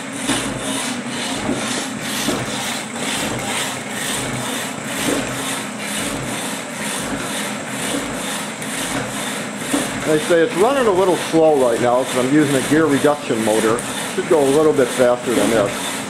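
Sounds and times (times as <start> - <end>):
electric motor hum: 0.0 - 16.0
power hacksaw blade rasping: 0.0 - 16.0.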